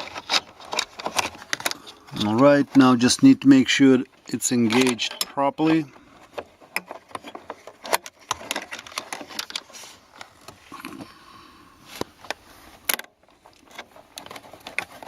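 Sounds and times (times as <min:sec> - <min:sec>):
plastic parts clicking and scraping: 0:00.0 - 0:11.1, 0:11.9 - 0:15.0.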